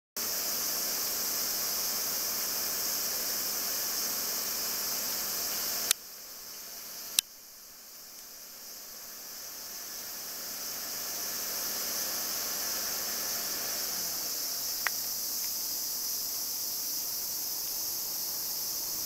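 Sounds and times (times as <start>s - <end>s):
insects droning: 0.2s - 19.0s.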